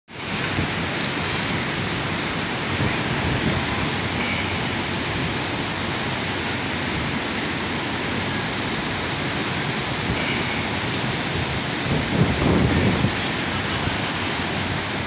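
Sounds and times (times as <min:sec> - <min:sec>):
heavy surf: 0:00.1 - 0:15.0
wind and rain: 0:00.1 - 0:15.0
wind gusts rumbling on microphone: 0:00.1 - 0:15.0.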